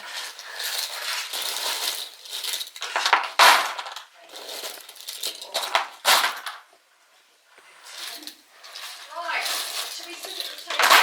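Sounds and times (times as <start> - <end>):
jigsaw puzzle pieces rattling: 0.0 - 6.6, 7.9 - 11.0.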